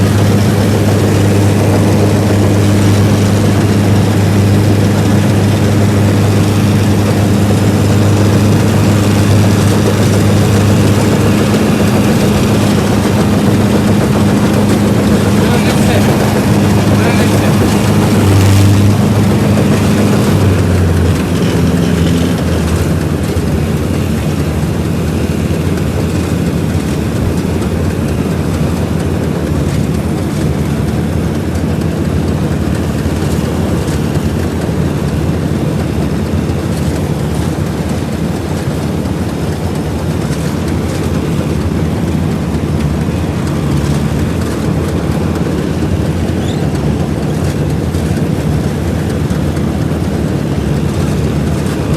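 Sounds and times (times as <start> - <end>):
combine harvester machinery drone: 0.0 - 51.9.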